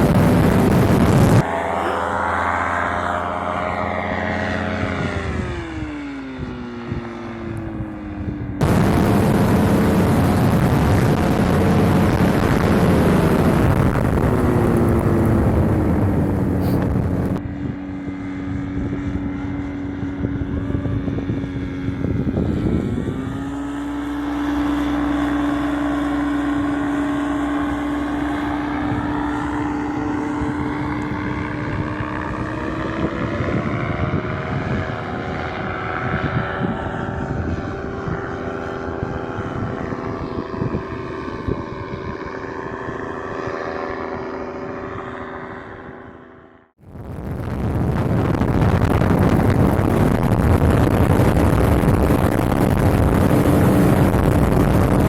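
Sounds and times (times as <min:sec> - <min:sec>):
heavy wind noise: 0:00.0 - 0:55.0
paramotor engine and propeller: 0:00.0 - 0:55.0.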